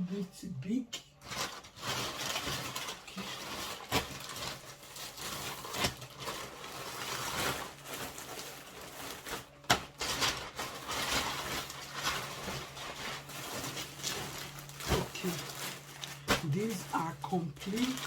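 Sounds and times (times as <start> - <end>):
plastic packaging crinkling: 1.2 - 18.0.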